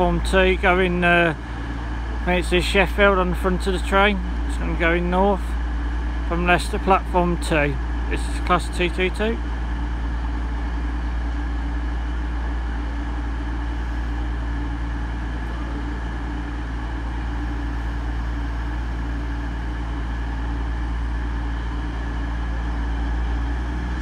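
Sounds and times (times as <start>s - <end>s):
train diesel engines idling: 0.0s - 24.0s.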